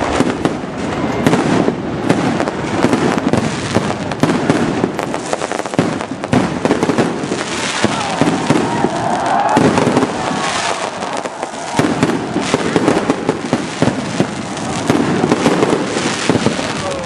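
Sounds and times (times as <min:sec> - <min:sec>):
fireworks bursting with bangs and crackles: 0:00.0 - 0:17.0.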